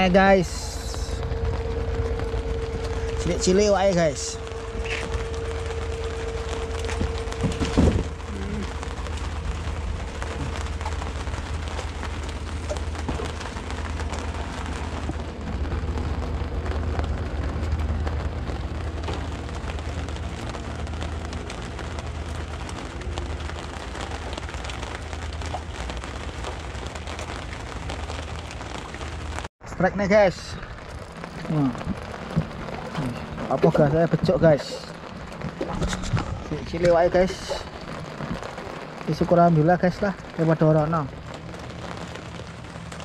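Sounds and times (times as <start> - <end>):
low rumble: 0.0 - 43.0
rain hiss: 0.0 - 43.0.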